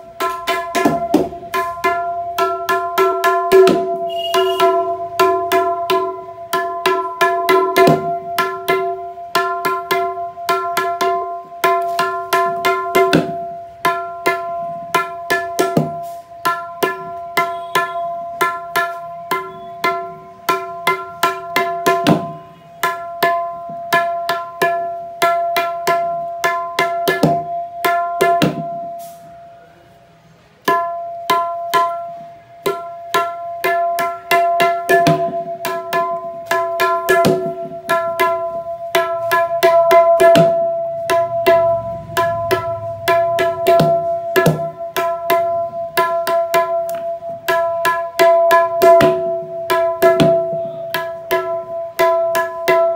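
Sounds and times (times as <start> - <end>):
tabla drum finger strokes: 0.0 - 52.9.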